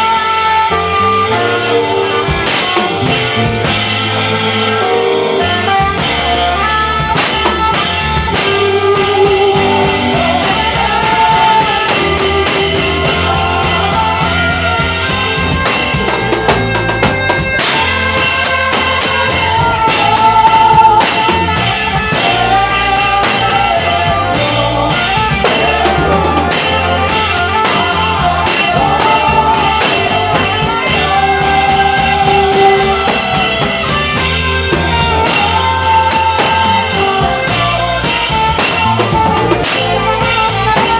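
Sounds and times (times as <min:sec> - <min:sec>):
drum kit: 0:00.0 - 0:40.9
guitar: 0:00.0 - 0:40.9
saxophone melody: 0:00.0 - 0:40.9.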